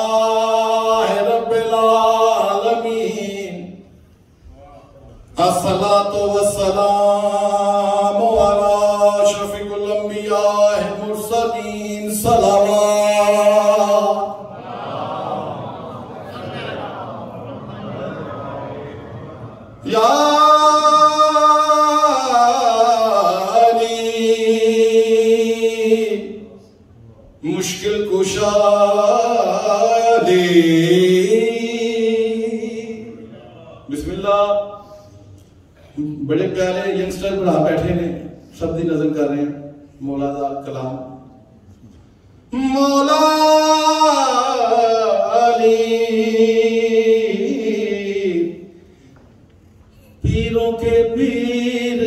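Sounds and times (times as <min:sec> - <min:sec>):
man chanting into a microphone: 0:00.0 - 0:14.5, 0:19.7 - 0:41.5, 0:42.5 - 0:49.0, 0:50.0 - 0:52.0.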